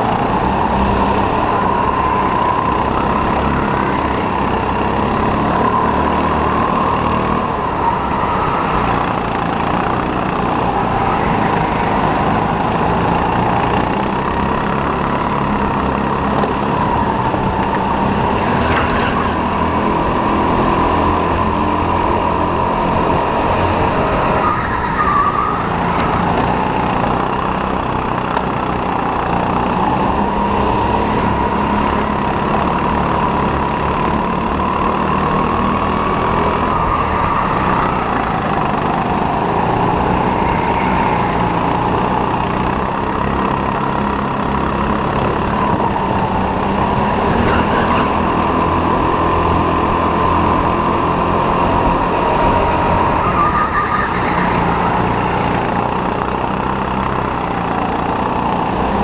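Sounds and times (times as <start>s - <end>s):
kart engine whining: 0.0s - 59.0s.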